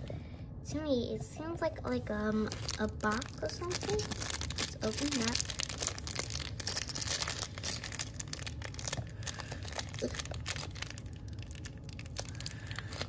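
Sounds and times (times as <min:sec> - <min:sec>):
plastic bag crinkling: 0:02.2 - 0:13.0.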